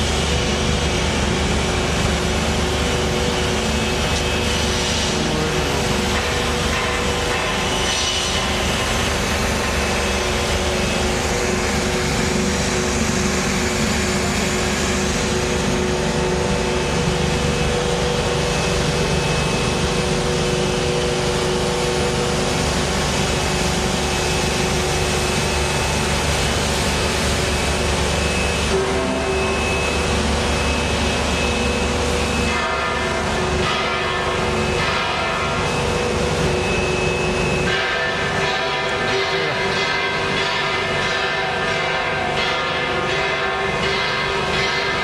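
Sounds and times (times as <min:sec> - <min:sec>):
machinery whir and hiss: 0:00.0 - 0:45.0
steady hum tones: 0:00.0 - 0:45.0.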